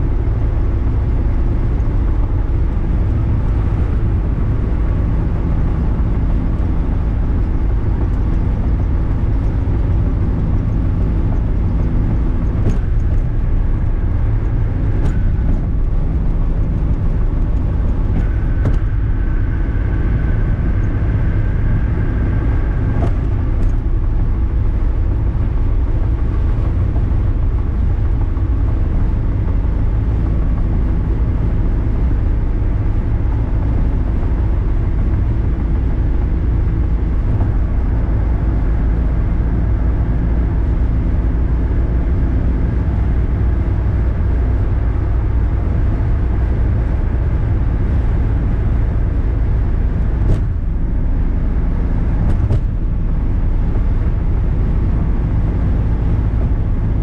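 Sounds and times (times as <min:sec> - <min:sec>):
car engine droning: 0:00.0 - 0:57.0
road and wind noise: 0:00.0 - 0:57.0.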